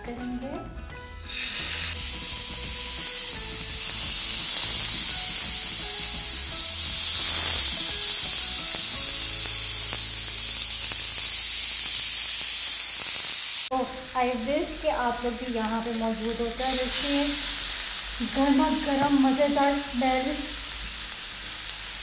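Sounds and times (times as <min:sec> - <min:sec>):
skewers sizzling in hot oil: 0:01.2 - 0:22.0.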